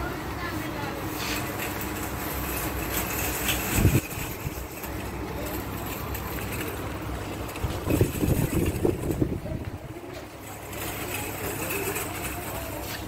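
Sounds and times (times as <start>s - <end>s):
trolley wheels rolling on tiles: 0.0s - 13.0s.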